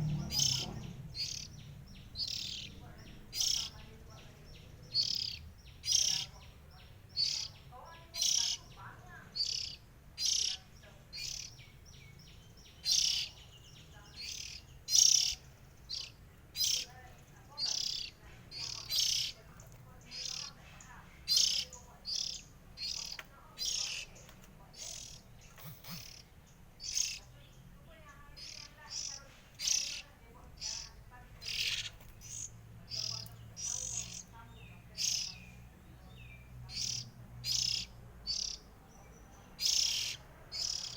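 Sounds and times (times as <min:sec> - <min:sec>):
bird harsh rasping calls: 0:00.0 - 0:40.9.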